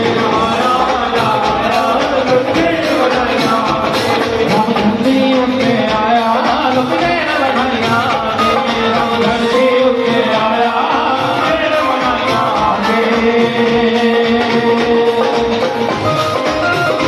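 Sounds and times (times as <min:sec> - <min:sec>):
song with instrumental accompaniment: 0:00.0 - 0:17.0.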